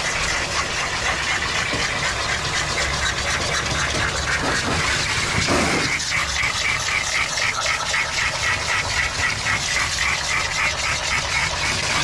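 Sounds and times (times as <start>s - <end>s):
hose water spraying pulsing hiss: 0.0s - 12.0s.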